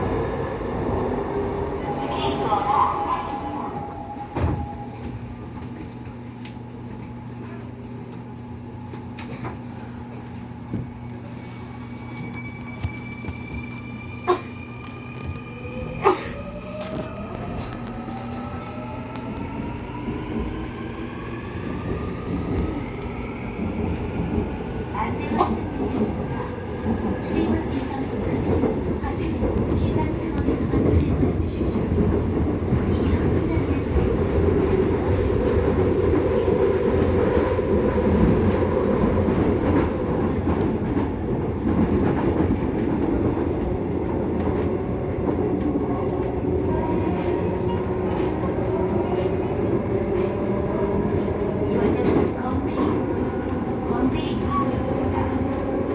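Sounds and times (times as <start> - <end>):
electric train rumble: 0.0 - 7.3, 8.1 - 55.9.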